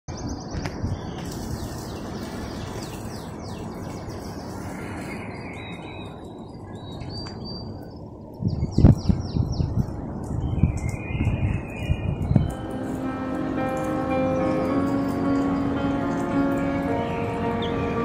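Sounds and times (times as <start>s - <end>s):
small birds chirping: 0.1s - 18.0s
steady low hiss: 0.4s - 18.0s.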